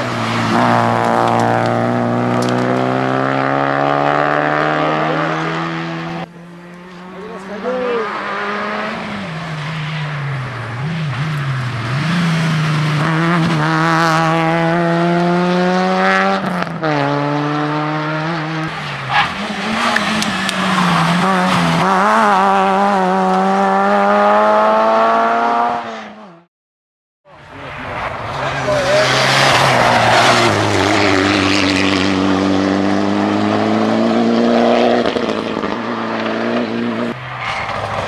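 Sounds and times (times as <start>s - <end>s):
rally car engine revving: 0.0s - 26.5s, 27.6s - 38.0s.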